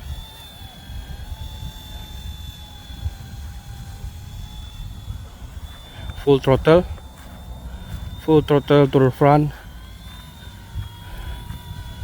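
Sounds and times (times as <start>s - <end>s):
toy helicopter motor whine: 0.0s - 12.0s
wind buffeting microphone: 0.0s - 12.0s.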